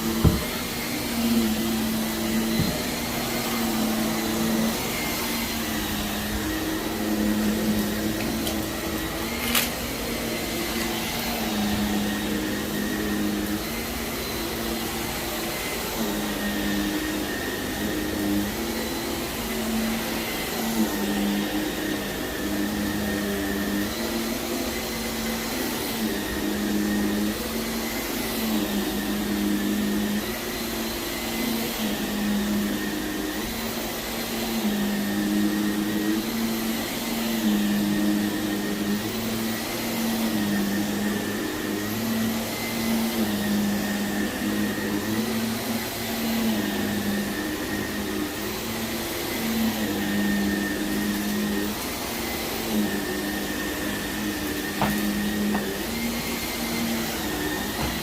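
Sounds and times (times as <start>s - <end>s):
vacuum cleaner motor hum: 0.0s - 58.0s.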